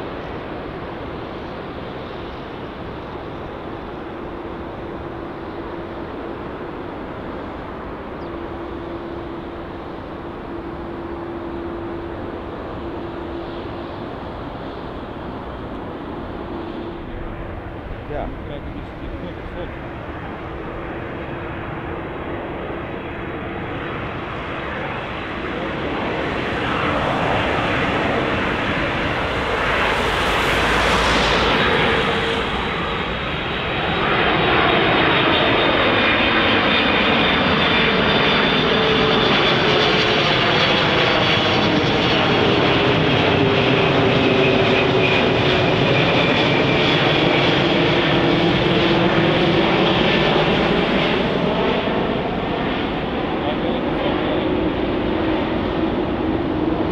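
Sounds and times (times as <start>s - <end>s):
jet engines rumbling with whine: 0.0s - 56.9s.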